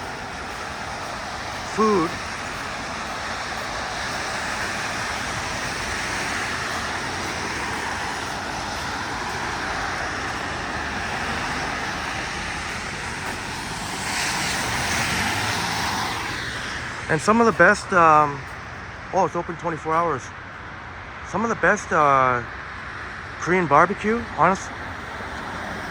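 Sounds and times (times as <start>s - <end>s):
traffic on wet road: 0.0s - 25.9s.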